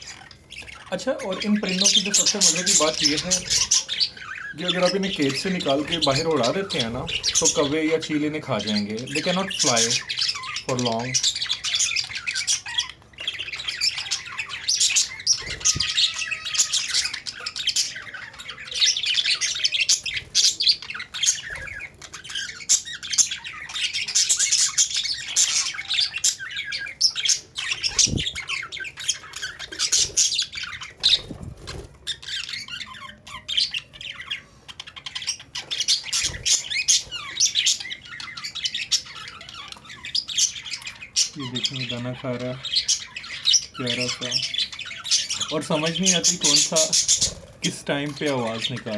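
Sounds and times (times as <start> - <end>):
parrots chattering and squawking: 0.0 - 48.9.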